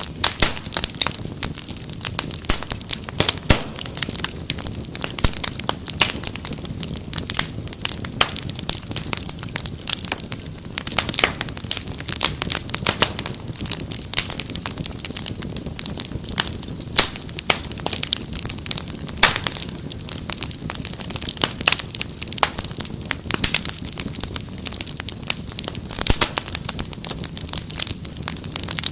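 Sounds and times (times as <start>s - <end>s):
low rumble of burning: 0.0s - 28.9s
wood fire snapping and popping: 0.0s - 28.9s.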